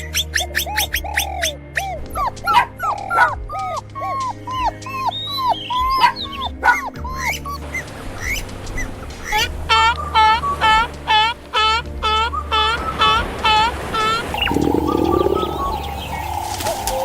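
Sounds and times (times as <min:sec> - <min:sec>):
dog yipping and whimpering: 0:00.0 - 0:14.8
background music: 0:00.0 - 0:17.0.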